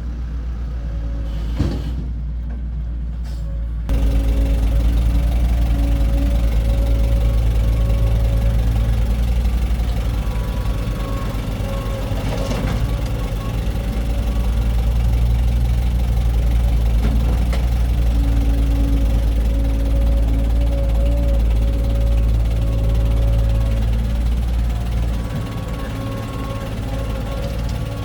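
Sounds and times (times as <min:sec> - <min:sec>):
heavy diesel engine throbbing: 0:03.7 - 0:28.0.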